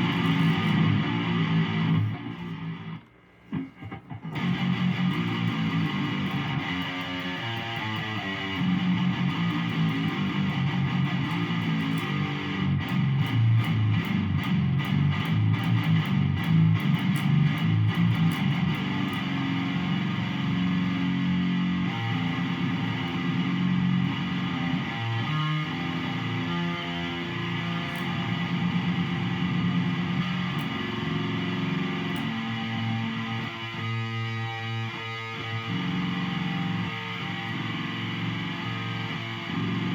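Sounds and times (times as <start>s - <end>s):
electric guitar playing low riffs: 0.0s - 39.9s.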